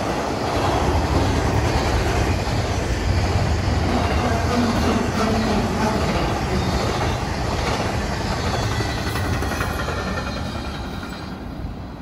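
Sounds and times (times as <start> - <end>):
freight train rolling on rails: 0.0 - 12.0.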